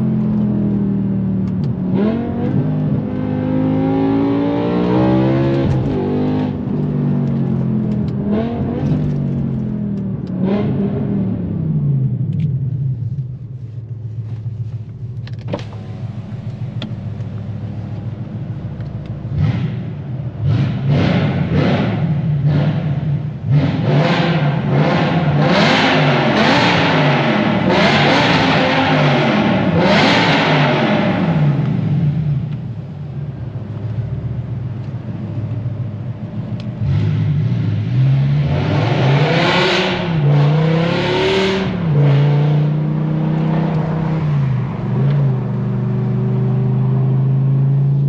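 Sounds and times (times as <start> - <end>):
car engine revving: 0.0 - 13.2, 15.2 - 48.0.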